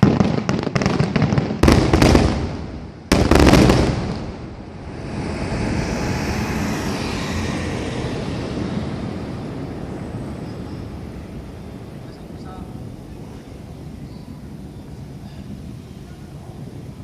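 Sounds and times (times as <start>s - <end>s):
firework crackling: 0.0s - 17.0s.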